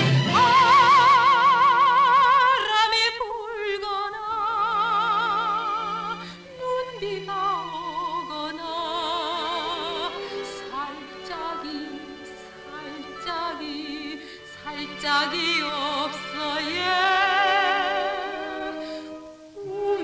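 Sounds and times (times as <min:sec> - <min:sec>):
musical accompaniment: 0:00.0 - 0:20.0
woman singing high note with vibrato: 0:00.3 - 0:20.0.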